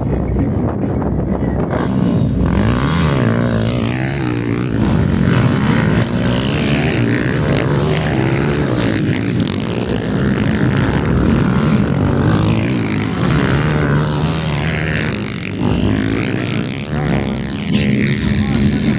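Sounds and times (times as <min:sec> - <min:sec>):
motocross bike engines revving: 0:01.6 - 0:18.9.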